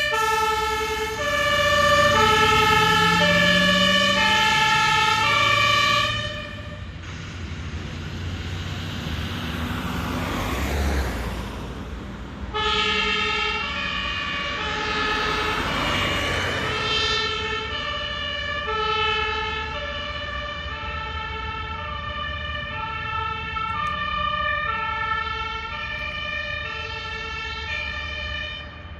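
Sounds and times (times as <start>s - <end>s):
fire engine two-tone siren: 0.0s - 28.9s
rush of traffic noise: 0.0s - 28.9s.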